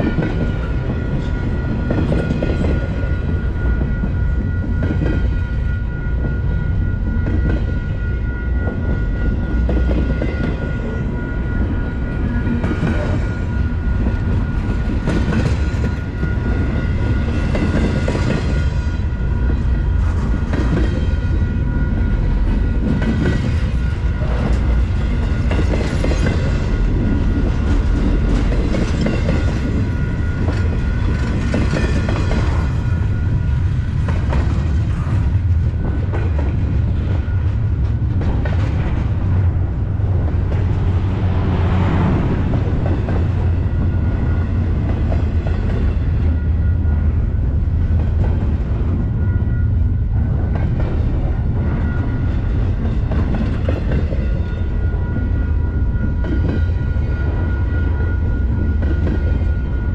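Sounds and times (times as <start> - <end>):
train knocks: 0.0 - 59.9
train wheels rumbling on rails: 0.0 - 59.9.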